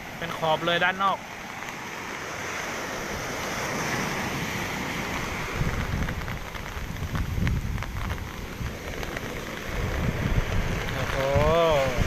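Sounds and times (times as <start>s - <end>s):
heavy waves breaking: 0.0s - 12.0s
wind buffeting microphone: 0.0s - 12.0s.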